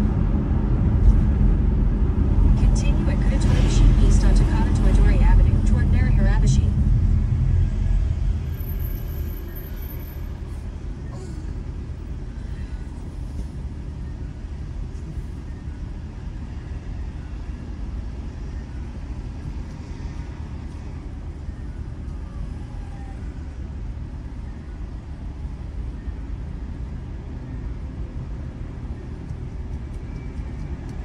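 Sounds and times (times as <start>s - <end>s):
low car rumble: 0.0s - 31.0s
traffic passing: 0.0s - 31.0s.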